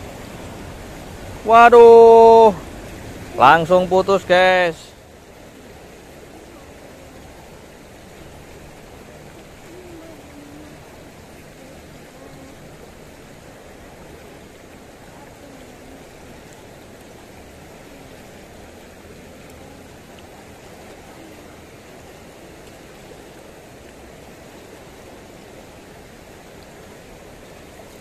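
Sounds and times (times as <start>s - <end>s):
river water rushing over rocks: 0.0s - 28.0s.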